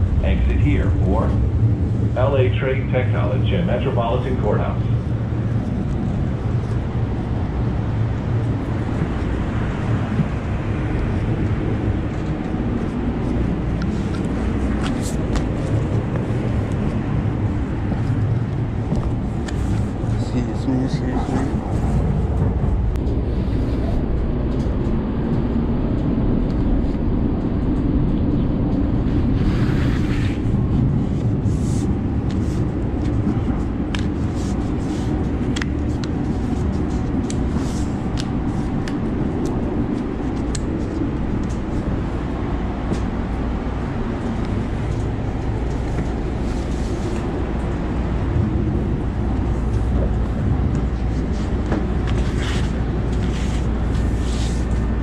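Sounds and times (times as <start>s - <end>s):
train car rumbling: 0.0s - 55.0s.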